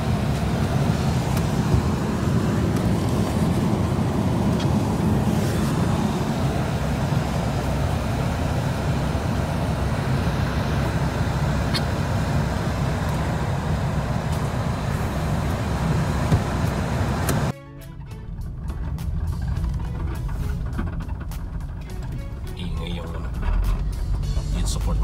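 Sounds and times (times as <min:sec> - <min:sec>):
car engine rumble inside cabin: 0:00.0 - 0:25.0.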